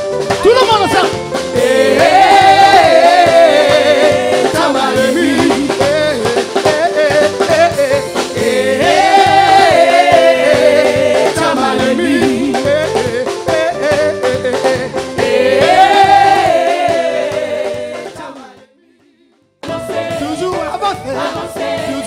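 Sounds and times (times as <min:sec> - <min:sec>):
band playing a steady beat: 0:00.0 - 0:18.7, 0:19.6 - 0:22.0.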